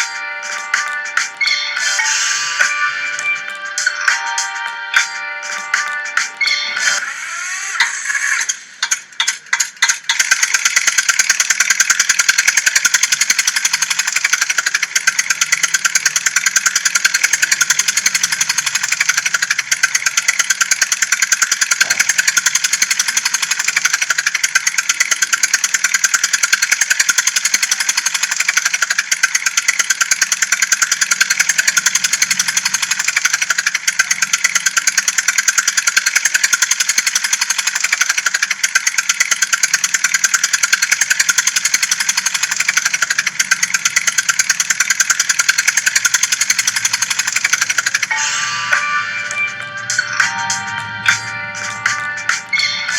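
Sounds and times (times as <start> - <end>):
tractor engine chugging: 7.8 - 52.9.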